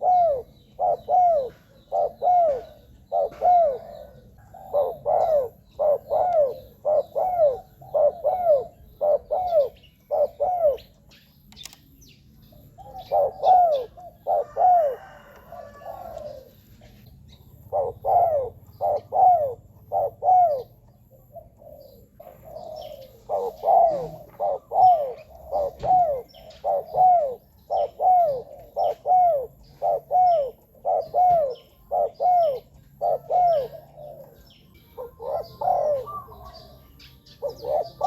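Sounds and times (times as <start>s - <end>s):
dove cooing: 0.0s - 11.8s, 12.5s - 38.0s.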